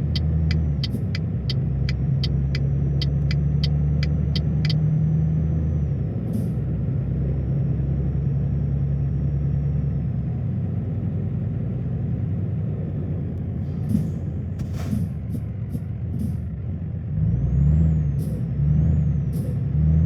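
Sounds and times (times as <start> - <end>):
truck diesel engine running: 0.0 - 16.7.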